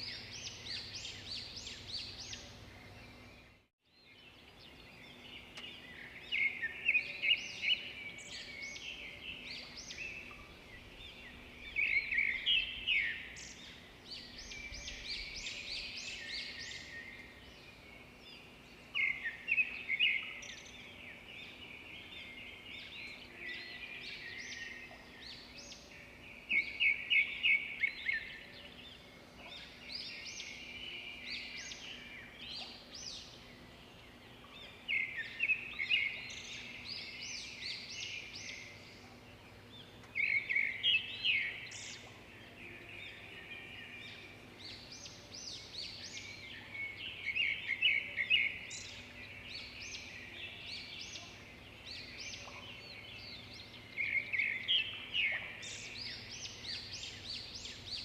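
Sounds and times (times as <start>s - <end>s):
birds chirping and singing: 0.0s - 58.0s
faint steady background noise: 0.0s - 58.0s.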